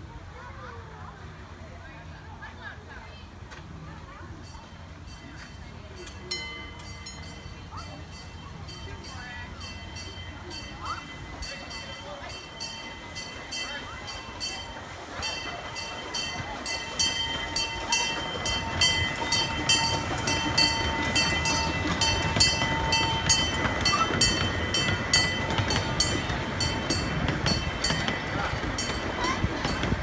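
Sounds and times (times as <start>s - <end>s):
miniature steam train rumbling past: 0.0s - 30.0s
crossing bell ringing: 4.0s - 30.0s.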